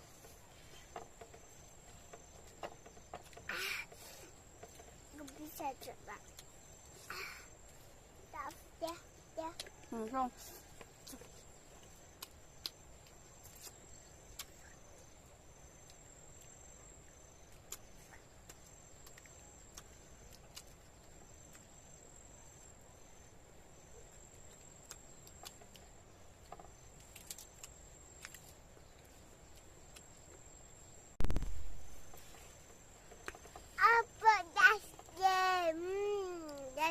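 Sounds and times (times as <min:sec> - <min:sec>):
insects trilling: 0:00.0 - 0:31.2, 0:31.9 - 0:36.9.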